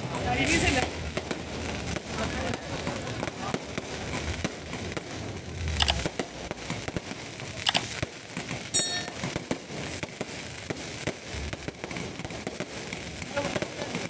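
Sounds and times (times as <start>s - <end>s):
firework bangs: 0.0s - 14.0s
fireworks crackling and popping: 0.0s - 14.0s.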